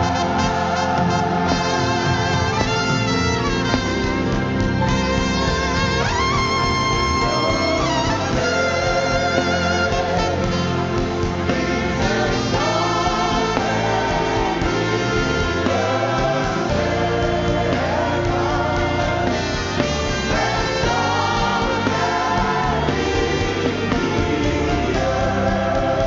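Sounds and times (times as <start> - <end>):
gospel band with choir: 0.0 - 26.0
strings and brass: 0.0 - 26.0.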